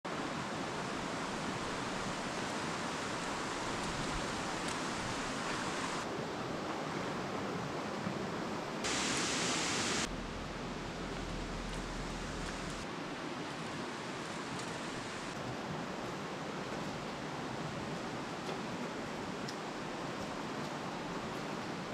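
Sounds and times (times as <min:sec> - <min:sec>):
stream rushing over stones: 0:00.1 - 0:08.0, 0:08.8 - 0:21.9.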